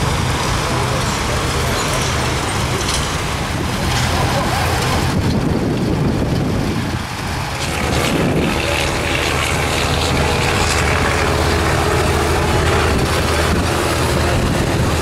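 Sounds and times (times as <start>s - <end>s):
tractor engines running: 0.0s - 15.0s.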